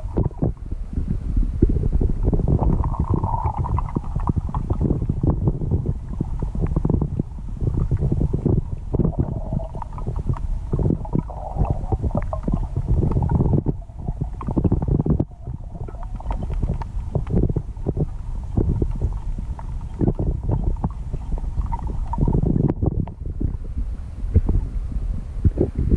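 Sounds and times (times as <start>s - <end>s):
underwater river rumble: 0.0s - 25.9s.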